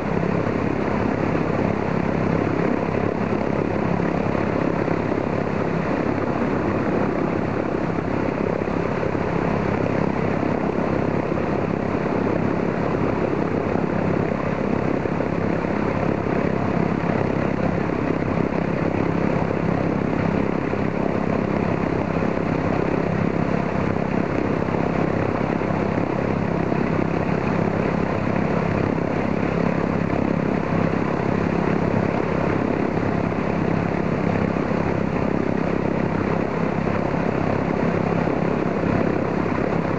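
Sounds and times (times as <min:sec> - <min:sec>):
radial aircraft engine idling: 0:00.0 - 0:39.9.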